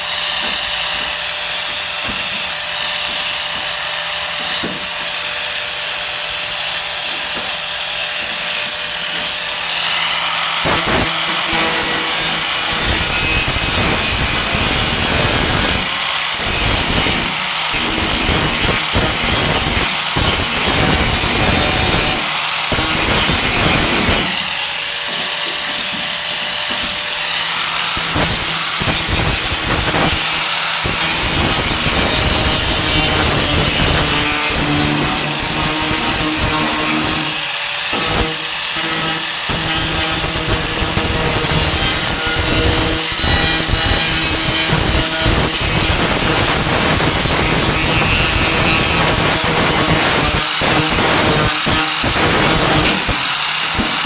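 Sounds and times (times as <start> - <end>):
angle grinder grinding sheet metal: 0.0 - 54.0.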